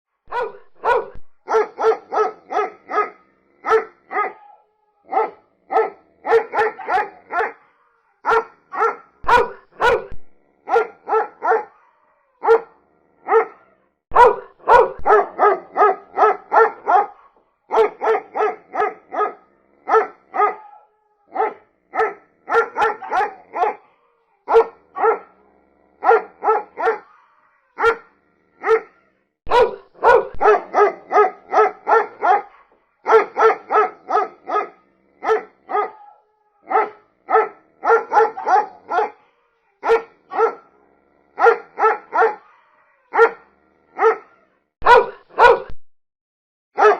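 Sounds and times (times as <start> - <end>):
dog barking: 0.3 - 45.8.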